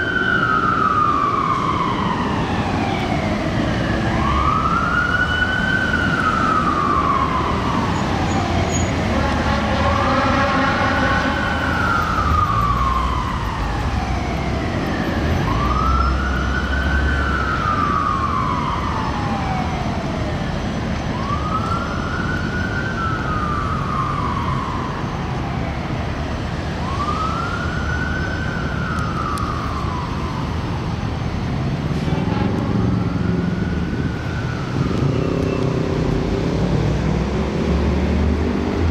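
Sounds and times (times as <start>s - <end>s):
fire engine siren wailing: 0.0s - 38.9s
truck and traffic rumble: 0.0s - 38.9s.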